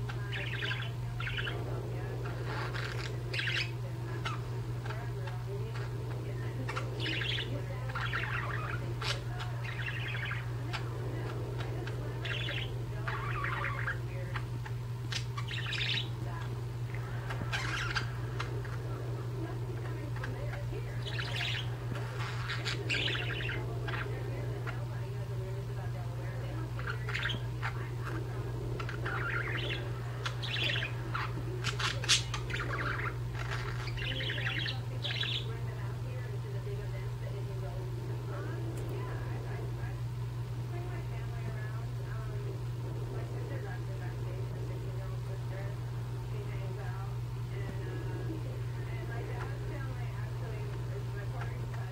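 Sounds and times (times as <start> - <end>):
budgerigars chirping and chattering: 0.0 - 40.0, 40.7 - 51.9
low hum: 0.0 - 51.9.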